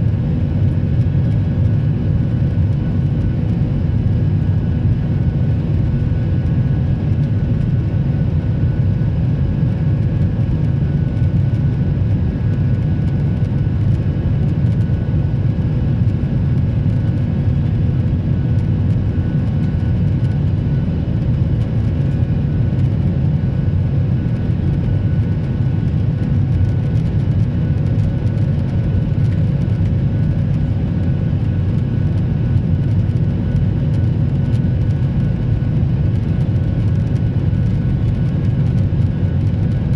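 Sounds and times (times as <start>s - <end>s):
engine and airflow rush: 0.0s - 39.9s.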